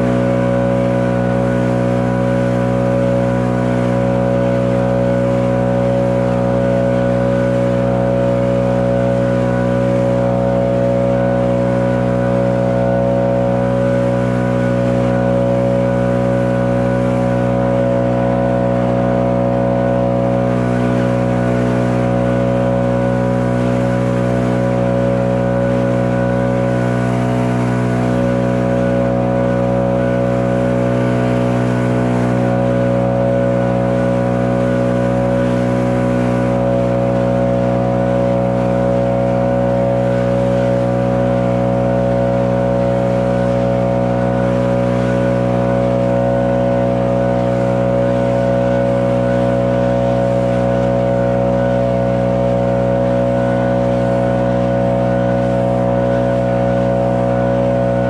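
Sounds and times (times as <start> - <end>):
leaf blower engine running: 0.0 - 58.0.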